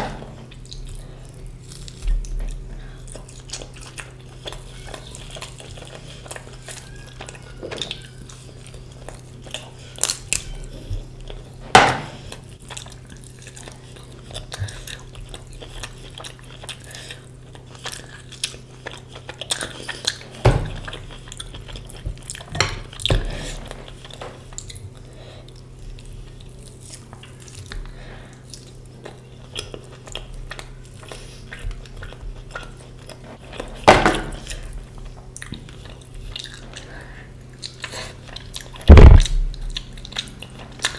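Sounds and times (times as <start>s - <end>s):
faint low hum: 0.0s - 40.9s
chewing and mouth noises: 0.3s - 40.9s.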